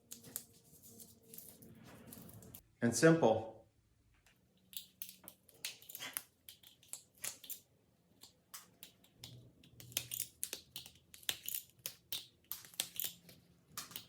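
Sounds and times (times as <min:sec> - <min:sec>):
tape clicks and crackles: 0:00.0 - 0:02.6, 0:04.2 - 0:14.0.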